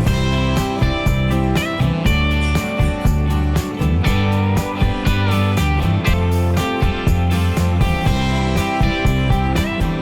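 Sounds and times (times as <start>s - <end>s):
steady bass beat: 0.0s - 10.0s
strummed guitar: 0.0s - 10.0s.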